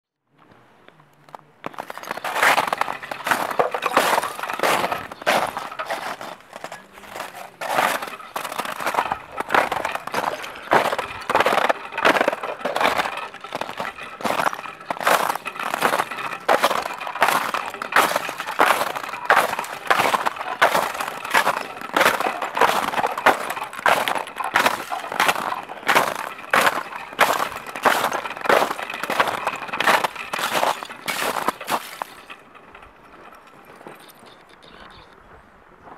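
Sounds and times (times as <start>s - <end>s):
boots crunching on snowy ice: 1.7s - 32.3s.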